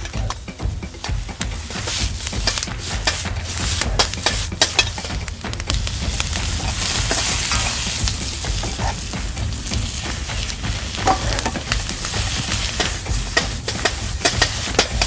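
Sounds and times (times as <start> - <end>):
utensil clicking against pan: 0.0 - 15.0.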